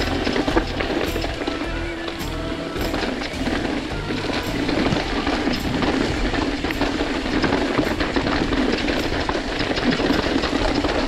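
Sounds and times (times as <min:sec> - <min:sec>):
bike chain and frame rattling: 0:00.0 - 0:11.0
bike tyres on dirt: 0:00.0 - 0:11.0.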